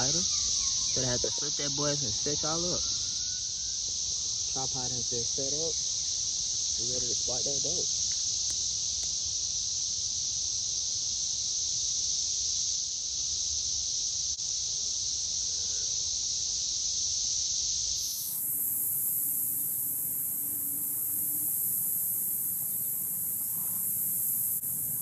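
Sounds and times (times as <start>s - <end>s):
buzzing insect chorus: 0.0s - 25.0s
high hissy insect chorus: 0.0s - 25.0s.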